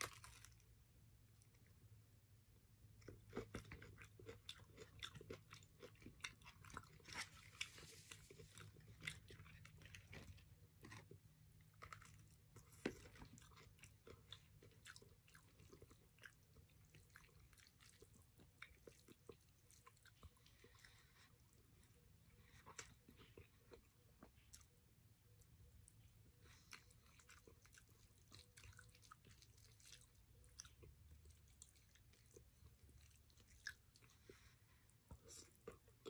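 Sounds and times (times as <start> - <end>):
crunchy chewing of fried chicken: 0.0 - 36.0.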